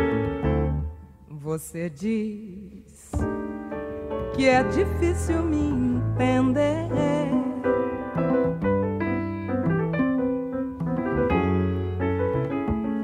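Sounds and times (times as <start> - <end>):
piano playing: 0.0 - 1.3, 3.1 - 13.0
double bass notes: 0.0 - 13.0.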